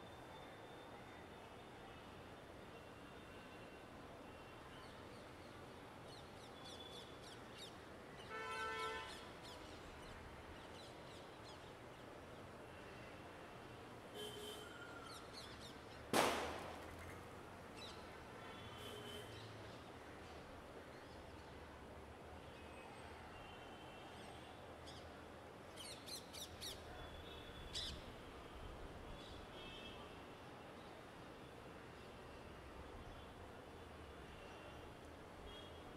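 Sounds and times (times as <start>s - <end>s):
city traffic hum: 0.2s - 35.9s.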